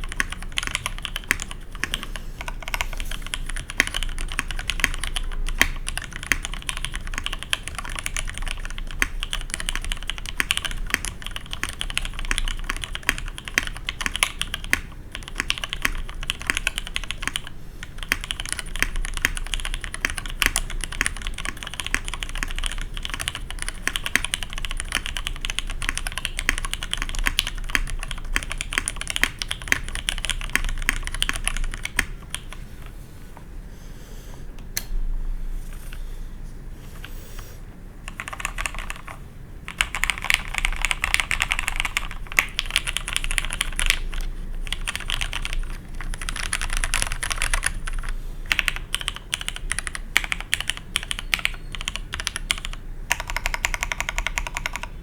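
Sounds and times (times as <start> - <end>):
mechanical keyboard typing: 0.0 - 32.5, 38.1 - 55.0.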